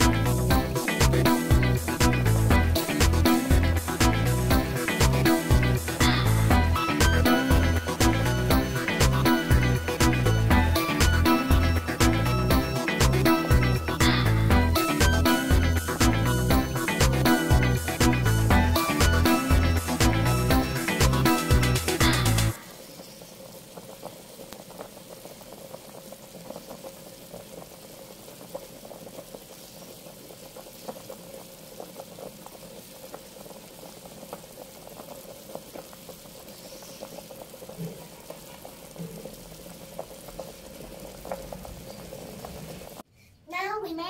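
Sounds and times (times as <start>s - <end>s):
water boiling with small pops: 0.0s - 43.1s.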